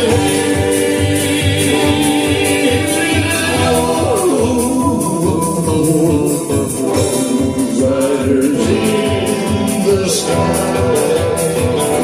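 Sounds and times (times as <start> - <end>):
live country band playing: 0.0 - 12.0
steady drum beat: 0.0 - 12.0.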